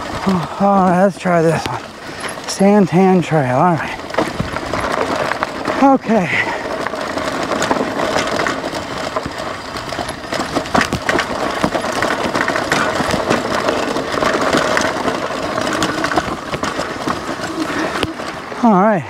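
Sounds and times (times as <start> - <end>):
bike rattling and clicking: 0.0 - 19.0
tyres crunching over gravel: 0.0 - 19.0.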